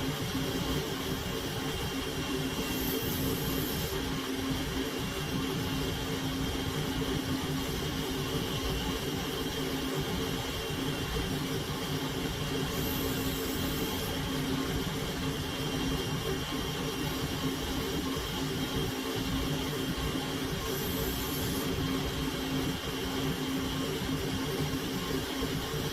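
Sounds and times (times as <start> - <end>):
machine motor humming and whining: 0.0 - 25.9.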